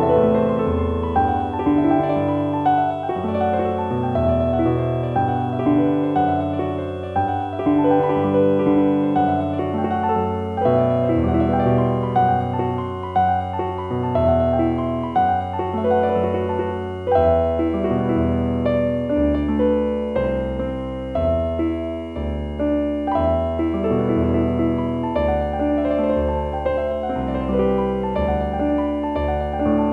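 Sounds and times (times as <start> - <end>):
slow piano music: 0.0 - 29.9.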